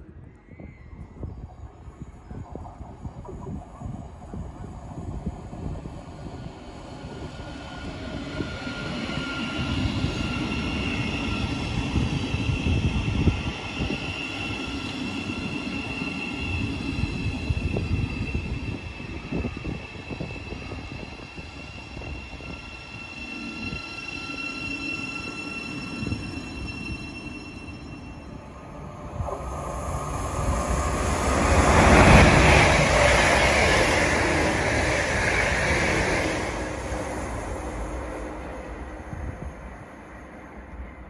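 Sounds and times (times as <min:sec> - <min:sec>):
high train whine: 0:00.0 - 0:41.0
train wheels rumbling: 0:02.4 - 0:41.0.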